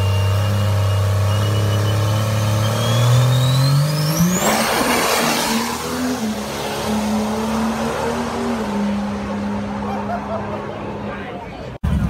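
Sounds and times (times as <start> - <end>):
diesel pickup engine revving: 0.0 - 11.1.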